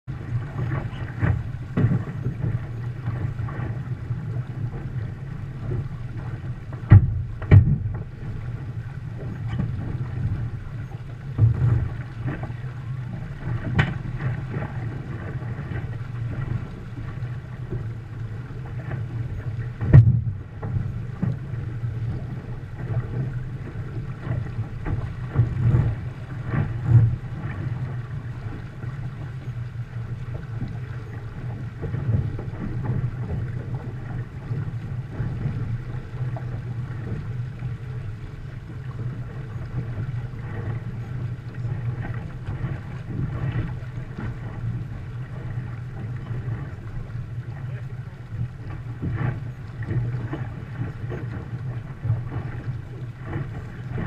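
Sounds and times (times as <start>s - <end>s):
water rushing along hull: 0.0s - 54.0s
wind buffeting microphone: 0.1s - 54.0s.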